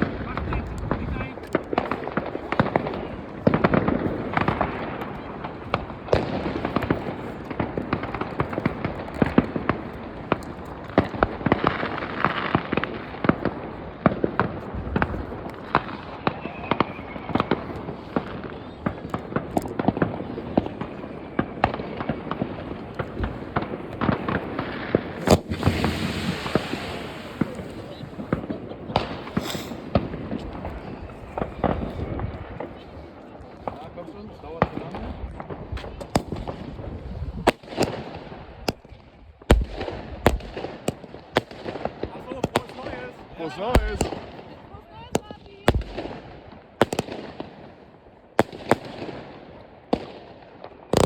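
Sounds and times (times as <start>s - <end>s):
fireworks crackling and banging: 0.0s - 51.0s.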